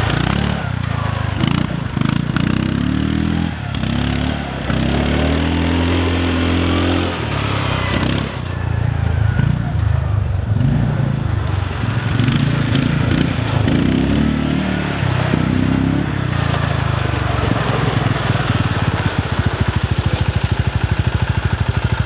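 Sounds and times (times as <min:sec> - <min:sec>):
quad bike engine: 0:00.0 - 0:22.0.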